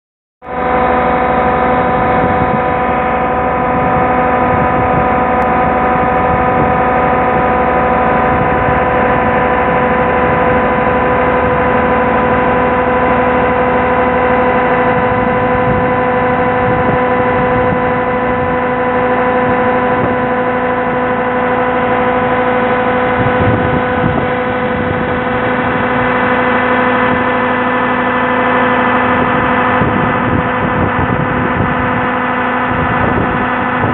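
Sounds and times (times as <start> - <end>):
pump whine: 0.4 - 33.9
tractor engines running: 0.4 - 33.9.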